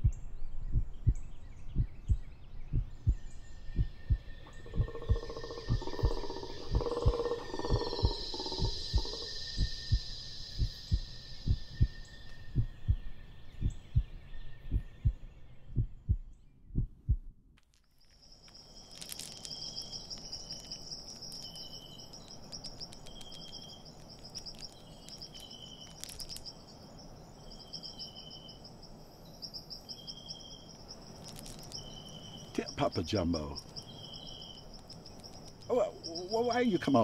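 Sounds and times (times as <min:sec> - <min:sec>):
bird chirping: 0:00.0 - 0:16.8, 0:18.3 - 0:37.0
high insect trill: 0:03.0 - 0:14.4, 0:17.8 - 0:37.0.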